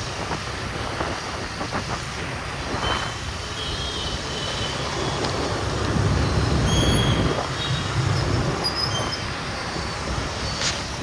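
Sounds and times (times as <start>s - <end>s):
traffic and road noise: 0.0s - 11.0s.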